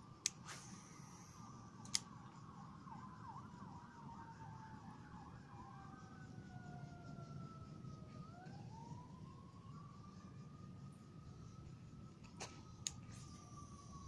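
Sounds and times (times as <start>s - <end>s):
faint siren wailing: 0.8s - 14.0s.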